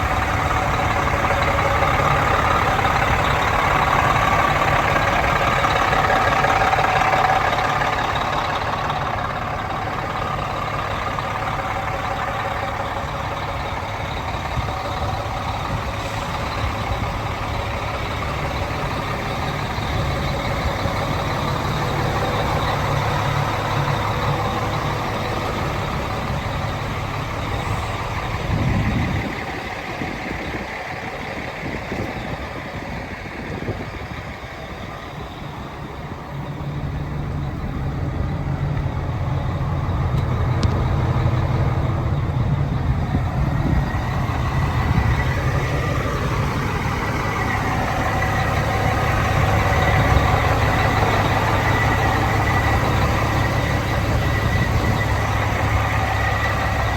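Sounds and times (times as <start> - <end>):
truck diesel engine drone: 0.0 - 56.9.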